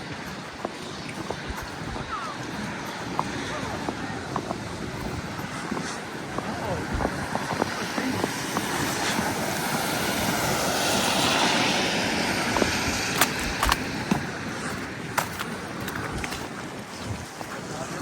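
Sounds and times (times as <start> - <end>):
vehicle tyre and road noise: 0.0 - 18.0.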